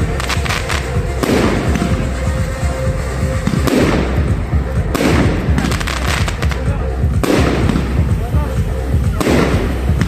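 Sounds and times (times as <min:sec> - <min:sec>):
fireworks bangs and crackle: 0:00.0 - 0:10.0
music playing: 0:00.0 - 0:10.0.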